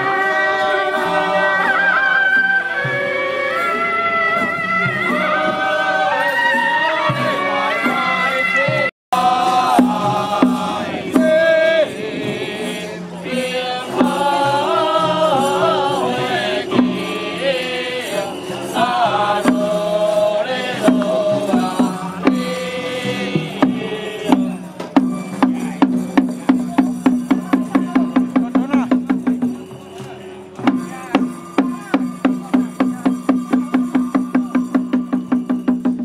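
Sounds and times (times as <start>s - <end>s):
chant-like ritual melody: 0.0s - 36.0s
steady percussion beat: 0.0s - 36.0s.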